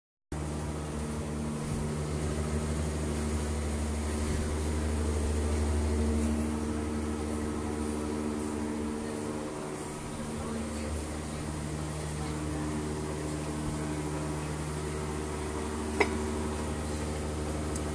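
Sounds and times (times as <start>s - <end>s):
workshop machinery humming: 0.3s - 17.9s.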